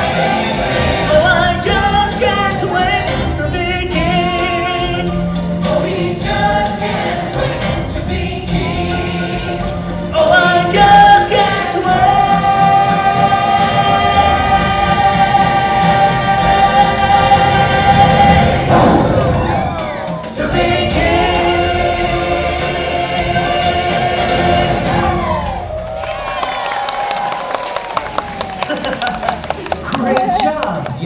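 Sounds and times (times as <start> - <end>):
choir singing held notes: 0.0 - 25.8
backing music: 0.0 - 31.0.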